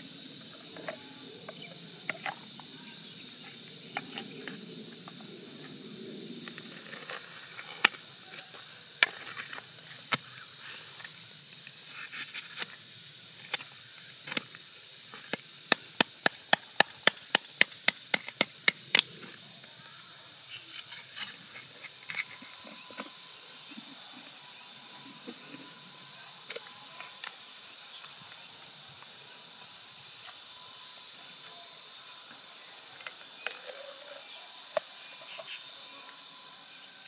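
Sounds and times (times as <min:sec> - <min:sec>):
steady high hiss: 0:00.0 - 0:37.0.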